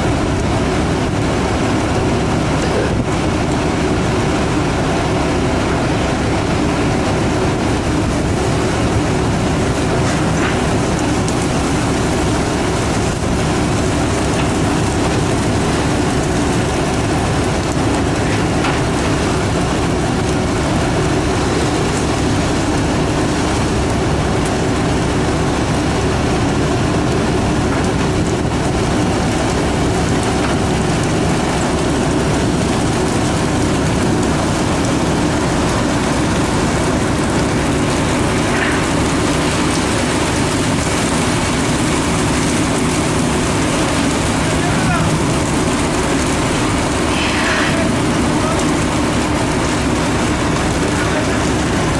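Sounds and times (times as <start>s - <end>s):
boat engines rumbling and hissing: 0.0s - 51.9s.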